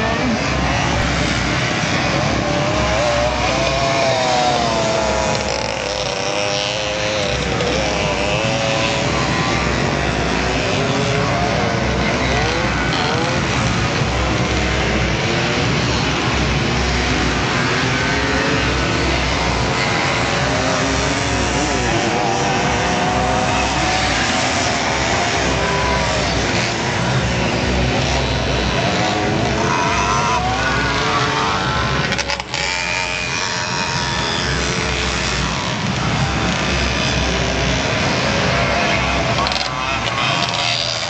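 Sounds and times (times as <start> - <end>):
pit bike engines revving: 0.0 - 41.0.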